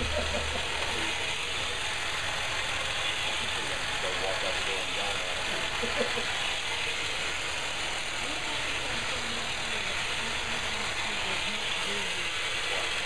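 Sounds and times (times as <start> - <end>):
small motor running with hiss: 0.0 - 13.0.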